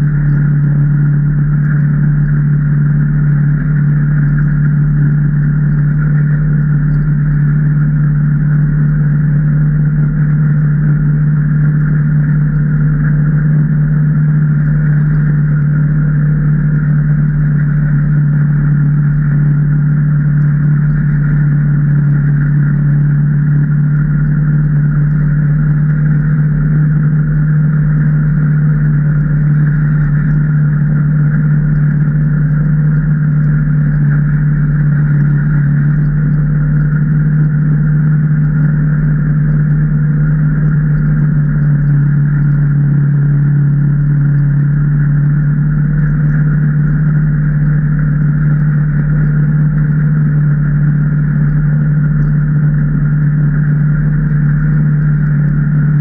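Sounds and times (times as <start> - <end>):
engine running steady drone: 0.0 - 56.0.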